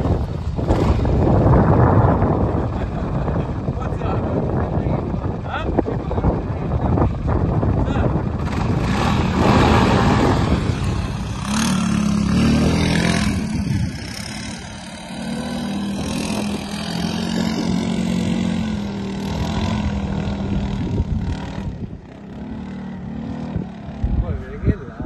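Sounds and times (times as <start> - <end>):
buggy engine revving: 0.0 - 24.8.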